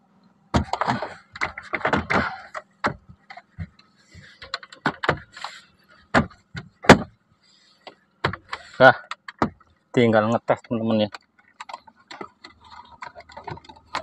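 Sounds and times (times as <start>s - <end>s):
hard plastic knocks and rattles: 0.5s - 7.2s, 7.8s - 14.0s.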